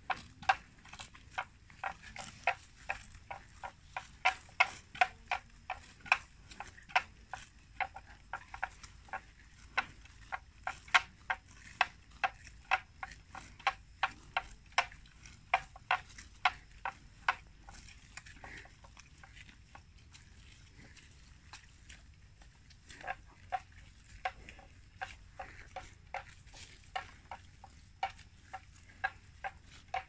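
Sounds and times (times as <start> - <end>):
buffalo tearing grass: 0.0 - 30.0.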